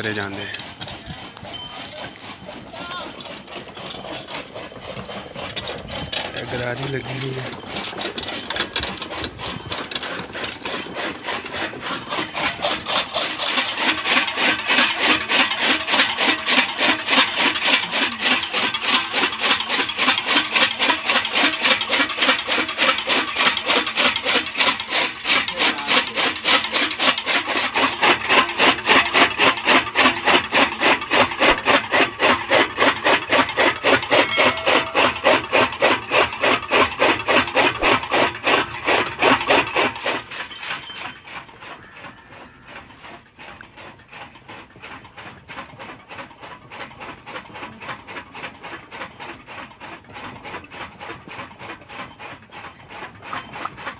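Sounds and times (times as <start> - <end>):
chaff cutter chopping fodder: 0.0 - 53.9.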